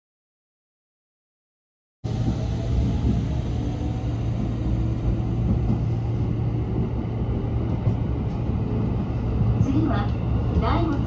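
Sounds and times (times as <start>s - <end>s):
train rumble and hum: 2.1s - 11.0s.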